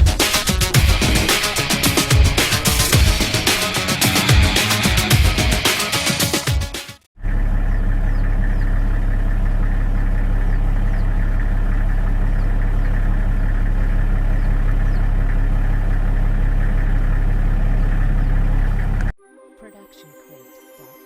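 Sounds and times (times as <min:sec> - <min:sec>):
vehicle engine idling: 0:00.0 - 0:05.7, 0:07.2 - 0:19.1.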